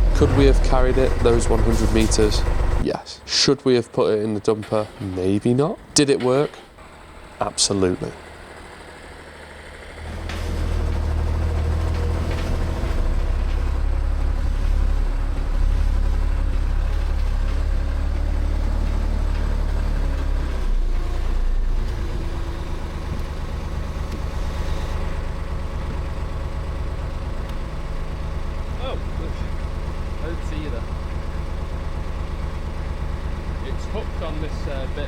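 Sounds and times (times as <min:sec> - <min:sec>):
diesel engine low rumble: 0:00.0 - 0:35.0.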